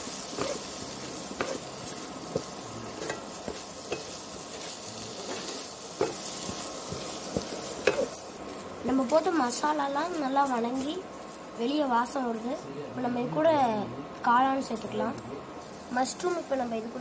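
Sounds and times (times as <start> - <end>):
low frying sizzle: 0.0 - 17.0.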